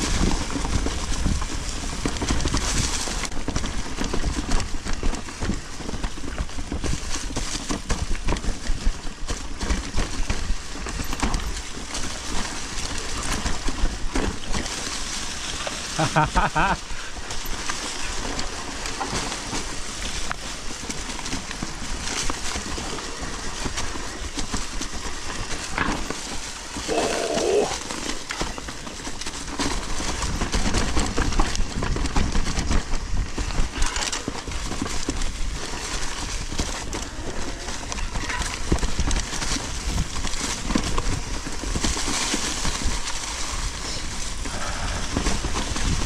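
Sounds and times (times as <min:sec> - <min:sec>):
bike chain and frame rattling: 0:00.0 - 0:46.0
bike tyres on dirt: 0:00.0 - 0:46.0
wind rumble on microphone: 0:00.0 - 0:46.0.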